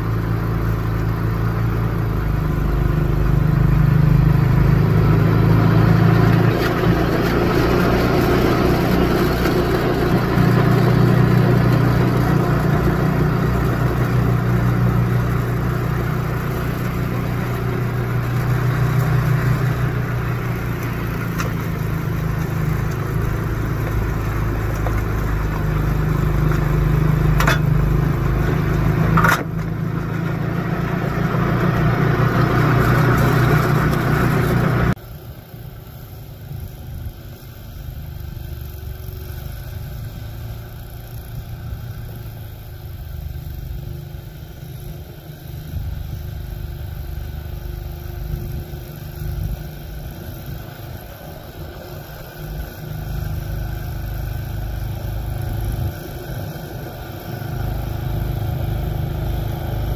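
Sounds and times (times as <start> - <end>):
snowblower engine running: 0.0 - 59.9.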